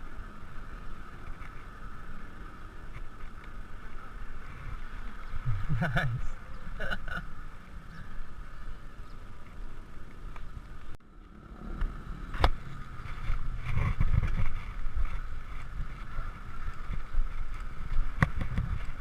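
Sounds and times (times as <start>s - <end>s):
wind buffeting microphone: 0.0s - 6.8s, 7.8s - 19.0s.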